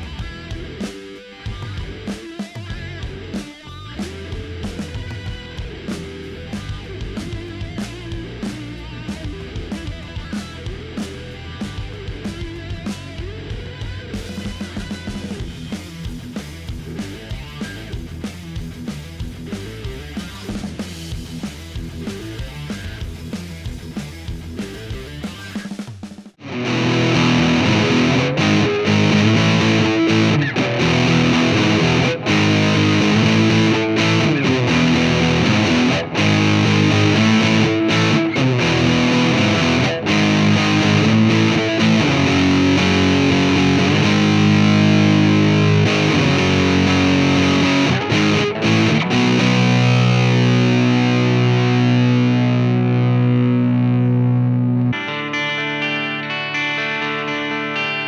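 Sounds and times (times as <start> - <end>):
distorted electric guitar: 0.0 - 25.8, 26.4 - 58.0.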